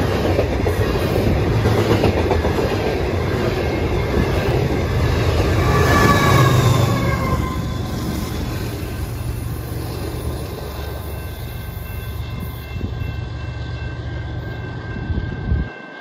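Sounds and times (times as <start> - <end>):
diesel locomotive rumbling: 0.0 - 15.8.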